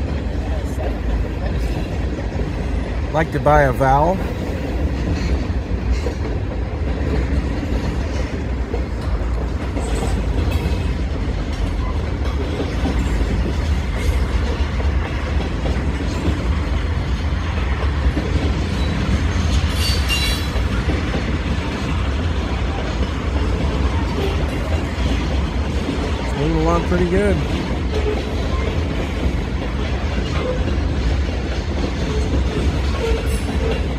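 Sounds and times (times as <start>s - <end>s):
train wheels rumbling on rail: 0.0s - 33.9s.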